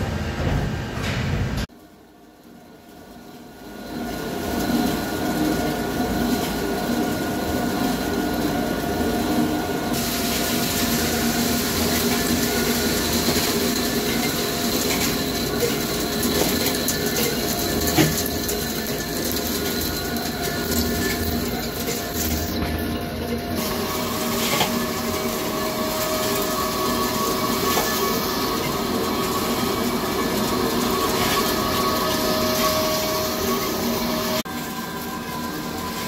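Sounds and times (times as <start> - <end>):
lathe machining metal: 2.9 - 36.0.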